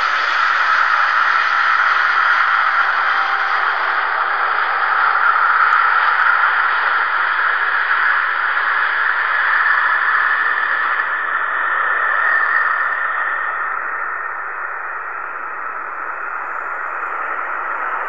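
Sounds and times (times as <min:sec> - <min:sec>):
jet engines at takeoff thrust: 0:00.0 - 0:18.0.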